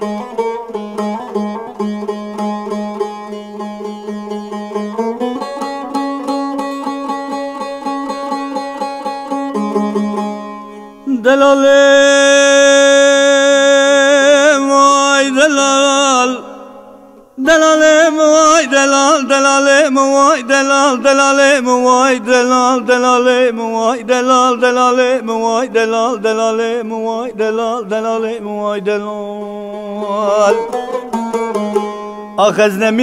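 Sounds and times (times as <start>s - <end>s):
saz strummed folk melody: 0.0s - 33.0s.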